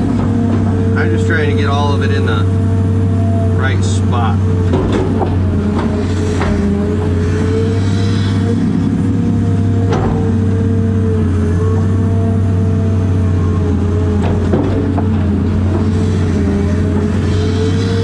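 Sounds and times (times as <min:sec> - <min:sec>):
excavator diesel engine running: 0:00.0 - 0:18.0
steady whine: 0:00.0 - 0:18.0.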